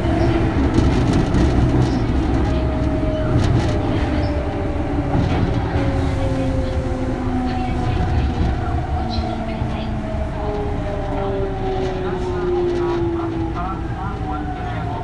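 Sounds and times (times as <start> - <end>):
train inverter whine: 0.0 - 15.0
train running rumble: 0.0 - 15.0.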